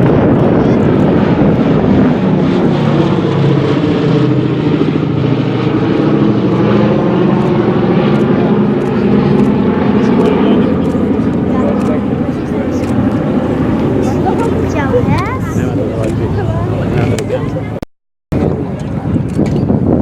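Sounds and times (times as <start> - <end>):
propeller airplane engine droning: 0.0 - 20.0.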